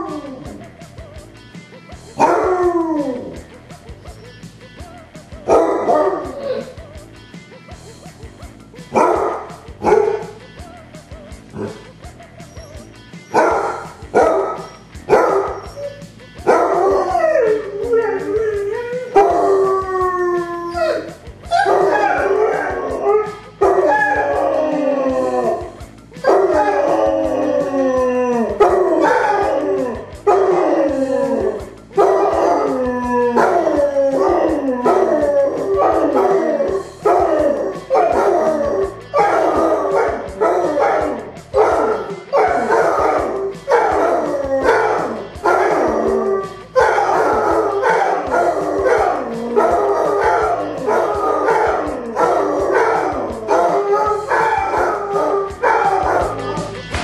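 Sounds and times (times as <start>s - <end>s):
hounds howling: 0.0s - 0.7s, 2.2s - 4.3s, 5.4s - 6.8s, 12.4s - 56.8s.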